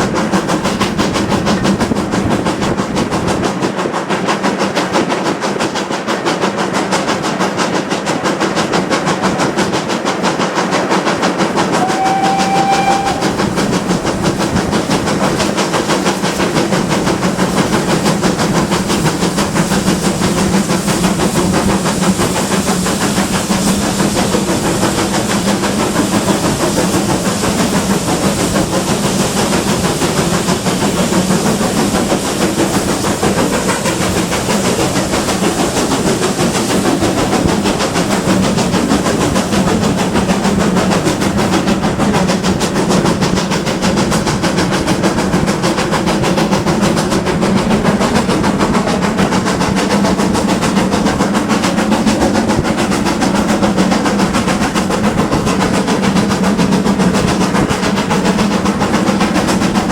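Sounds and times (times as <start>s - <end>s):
rail noise: 0.0s - 59.9s
steam hiss: 0.0s - 59.9s
steam locomotive exhaust beats: 0.0s - 59.9s.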